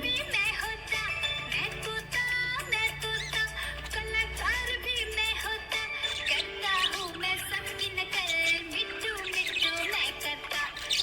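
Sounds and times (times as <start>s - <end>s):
bollywood-style song: 0.0s - 11.0s.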